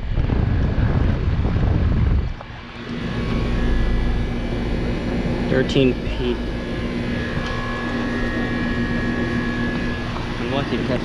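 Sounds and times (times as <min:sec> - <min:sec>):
heat pump starting up: 0:00.0 - 0:11.0.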